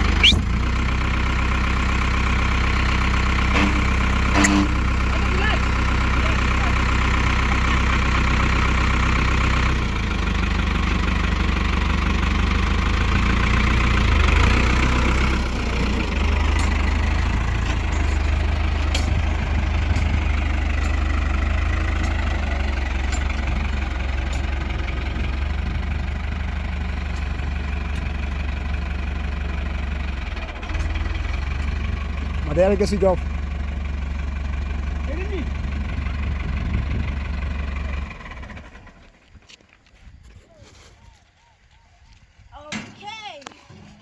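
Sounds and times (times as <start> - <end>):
tractor engine humming: 0.0 - 40.5.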